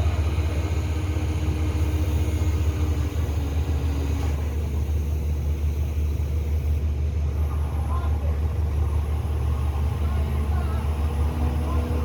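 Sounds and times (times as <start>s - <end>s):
engine running rumble: 0.0s - 12.0s.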